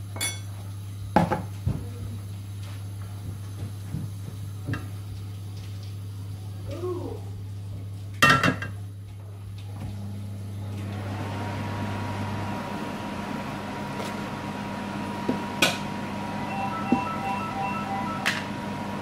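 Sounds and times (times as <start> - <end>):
gas hob hum and hiss: 0.0 - 19.0.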